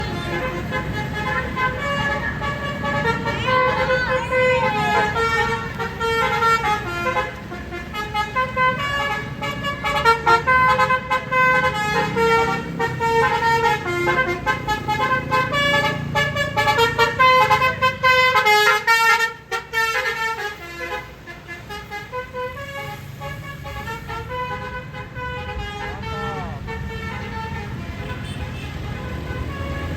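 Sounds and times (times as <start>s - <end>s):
multi-tone horn melody: 0.0s - 29.9s.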